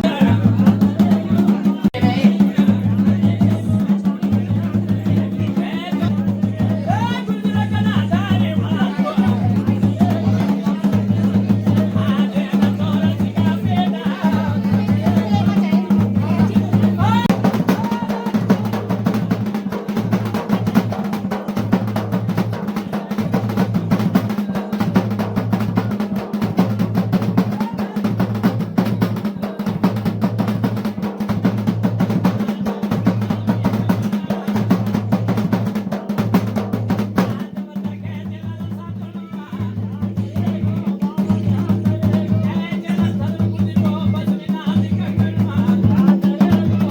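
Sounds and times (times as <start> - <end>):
fast drumming with rolling beats: 0.0 - 46.9.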